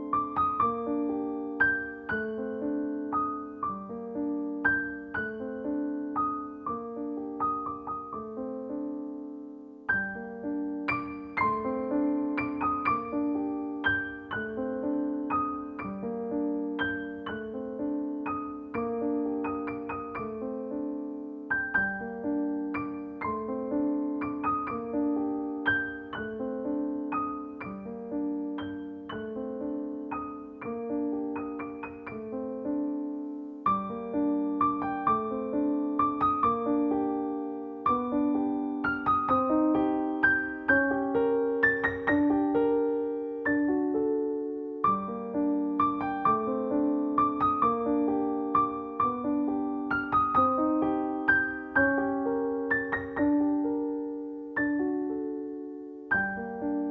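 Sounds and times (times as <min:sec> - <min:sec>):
slow solo piano piece: 0:00.0 - 0:56.9.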